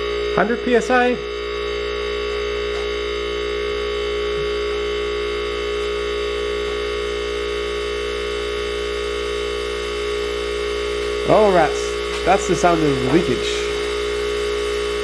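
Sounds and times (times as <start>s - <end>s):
compressor electric hum: 0.0s - 15.0s.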